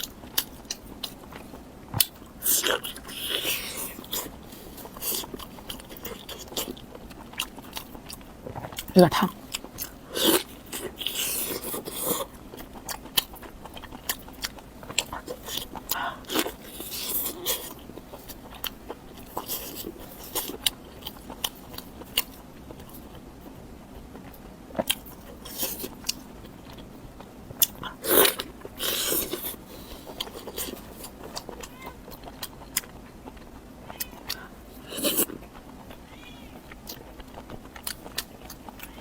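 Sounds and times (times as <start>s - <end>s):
biting and chewing with mouth clicks: 0.0s - 39.0s.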